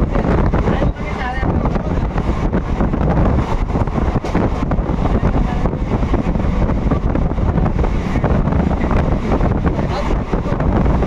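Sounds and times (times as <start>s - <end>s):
train wheels running and rattling: 0.0s - 11.0s
wind buffeting microphone: 0.0s - 11.0s.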